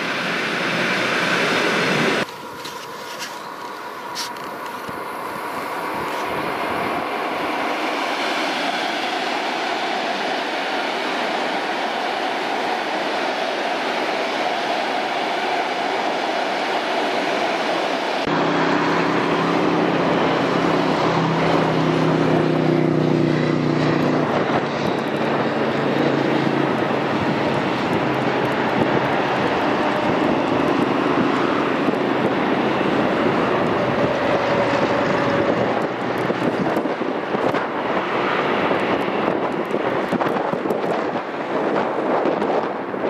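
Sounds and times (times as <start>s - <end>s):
train low humming tones: 0.0s - 43.0s
train rumble on rails: 0.0s - 43.0s.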